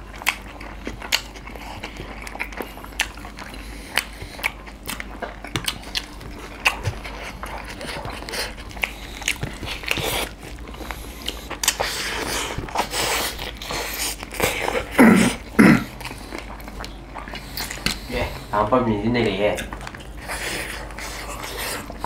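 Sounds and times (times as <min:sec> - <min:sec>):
people chewing with wet clicks: 0:00.0 - 0:22.0.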